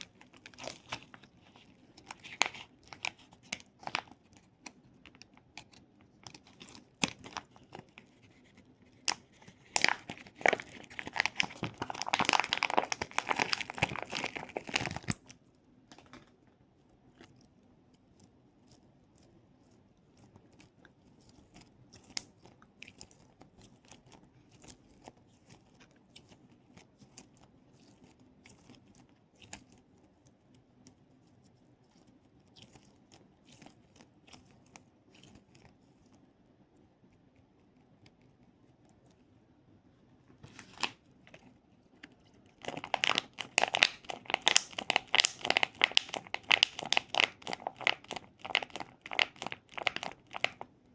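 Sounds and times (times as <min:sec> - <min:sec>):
crinkly plastic crackling: 0:00.0 - 0:36.2, 0:40.3 - 0:50.9.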